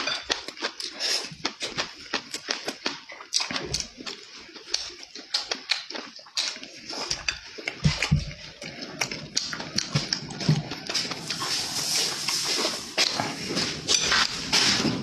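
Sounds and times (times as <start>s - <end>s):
person chewing and lip-smacking: 0.0s - 14.8s.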